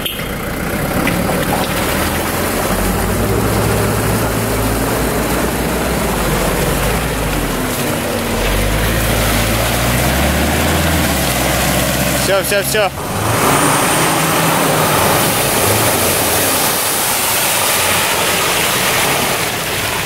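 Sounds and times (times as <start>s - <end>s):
churning mud and water: 0.0s - 20.0s
engine running hard: 0.0s - 20.0s.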